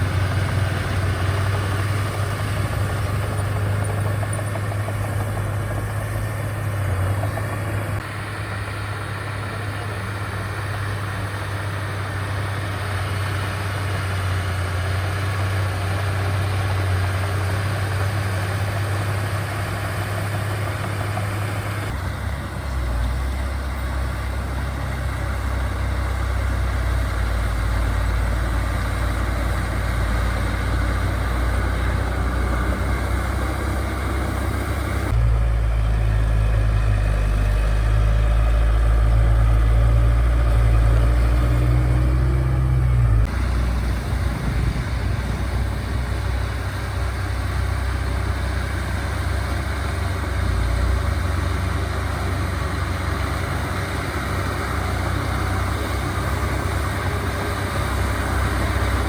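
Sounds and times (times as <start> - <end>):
diesel earthmoving machinery rumbling: 0.0 - 59.0.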